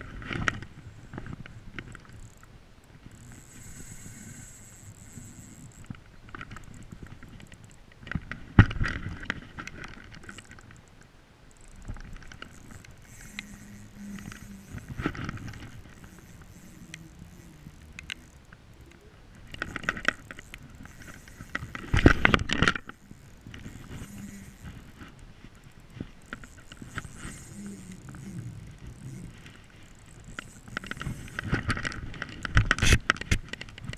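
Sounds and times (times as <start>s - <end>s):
spinning reel clicking: 1.8s - 7.8s, 11.5s - 33.9s.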